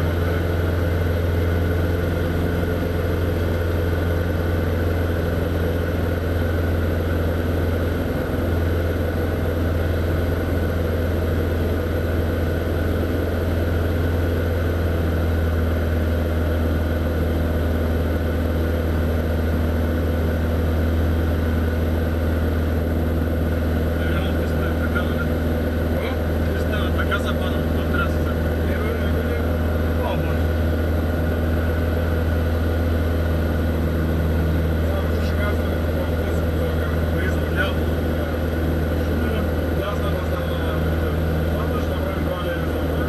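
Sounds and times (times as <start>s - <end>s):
propeller aircraft engine droning: 0.0s - 43.0s.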